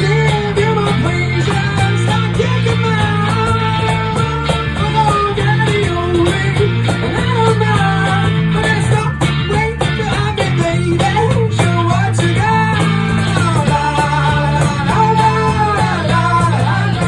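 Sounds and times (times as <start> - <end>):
melodic electric guitar line: 0.0 - 17.0.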